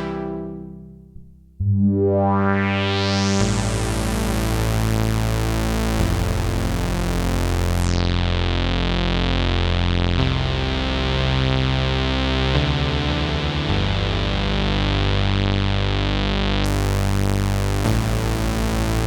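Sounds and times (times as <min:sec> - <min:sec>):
synthesizer sustained chords: 0:00.0 - 0:19.0.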